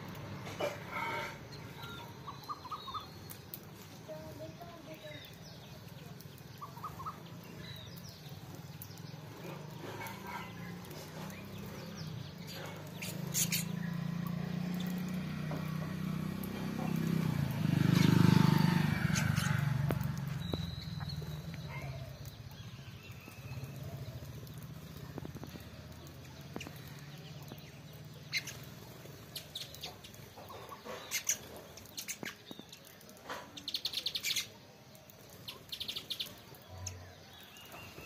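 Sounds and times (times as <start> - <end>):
sparrows chirping: 0.0 - 38.0.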